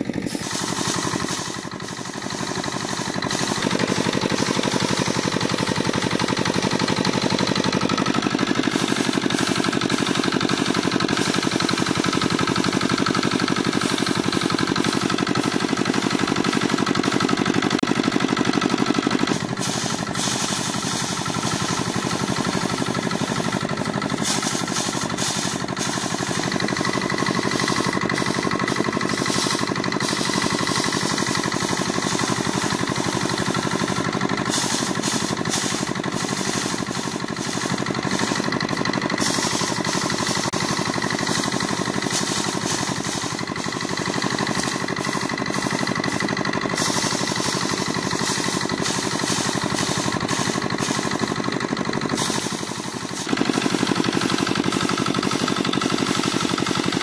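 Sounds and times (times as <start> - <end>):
rice sheaves rattling on drum: 0.0 - 57.0
thresher engine knocking: 0.0 - 57.0.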